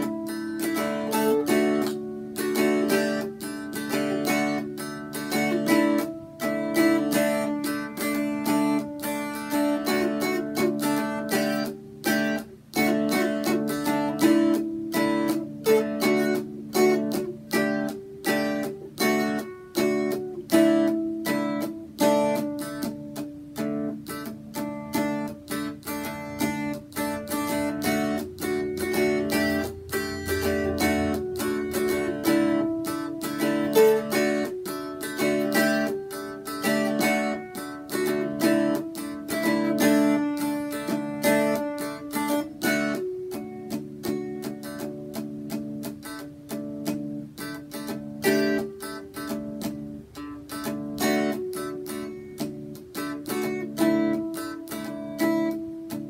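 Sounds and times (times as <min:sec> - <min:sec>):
mountain dulcimer strummed: 0:00.0 - 0:56.0.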